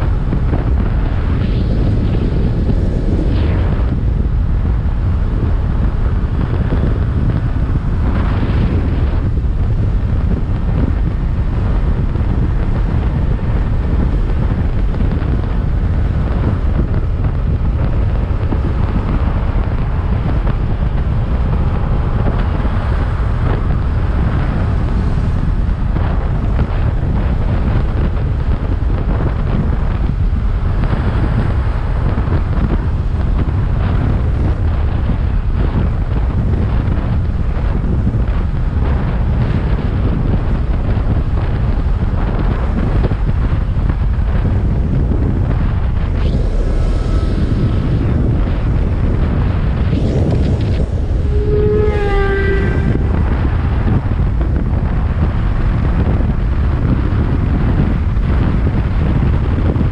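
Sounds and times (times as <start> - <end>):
wind roar buffeting microphone: 0.0 - 59.9.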